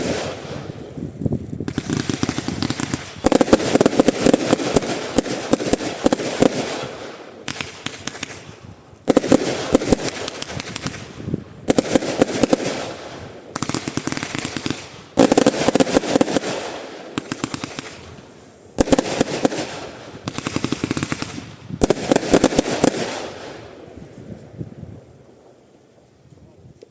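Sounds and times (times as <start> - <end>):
firework shots crackling: 0.0 - 24.2.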